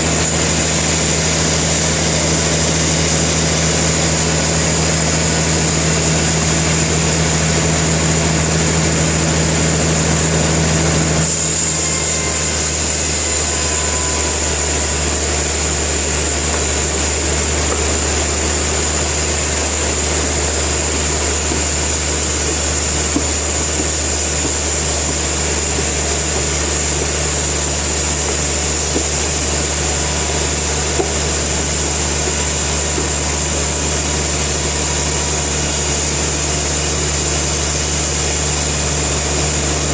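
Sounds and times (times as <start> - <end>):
high whine: 0.0 - 39.9
sawmill machinery drone: 0.0 - 39.9.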